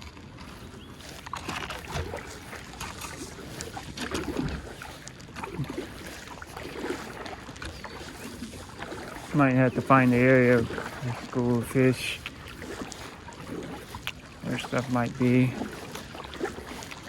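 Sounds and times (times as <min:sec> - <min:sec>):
kayak paddle splashing in water: 0:00.0 - 0:17.0.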